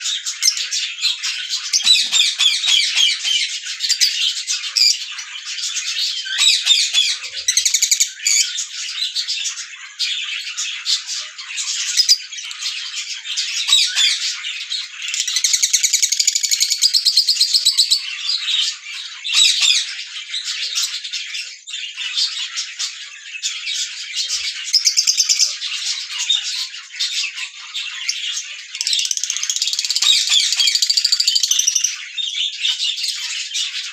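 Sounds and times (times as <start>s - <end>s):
parrots chirping and chattering: 0.0s - 33.9s.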